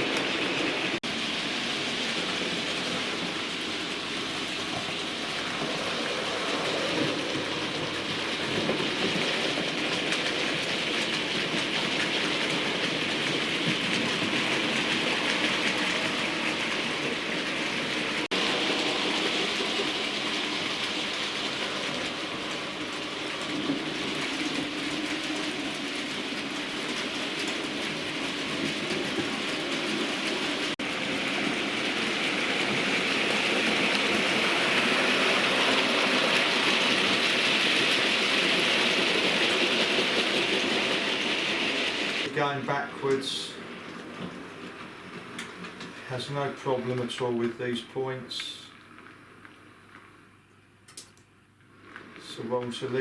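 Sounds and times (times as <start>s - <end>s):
model train whirring on rails: 0.0s - 48.4s.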